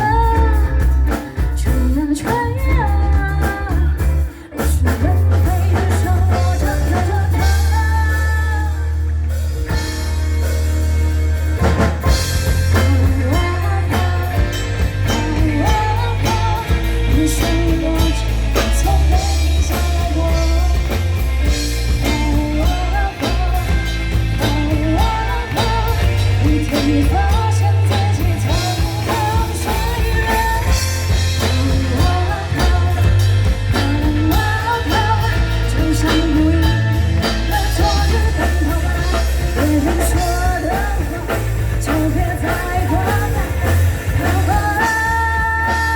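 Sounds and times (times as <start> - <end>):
rock song with singing: 0.0 - 45.9.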